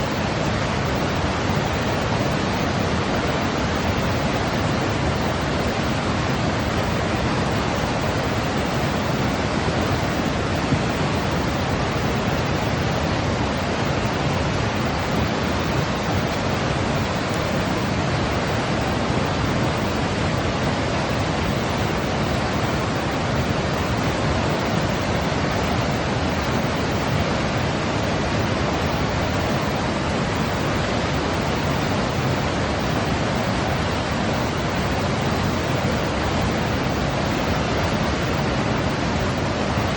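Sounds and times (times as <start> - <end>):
steady hiss-like rushing noise: 0.0 - 39.9.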